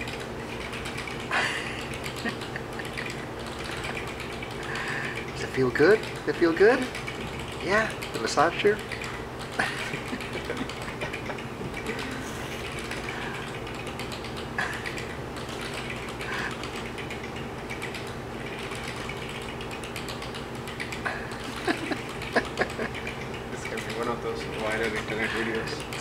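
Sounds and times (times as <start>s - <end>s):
massage chair motor hum: 0.0s - 26.0s.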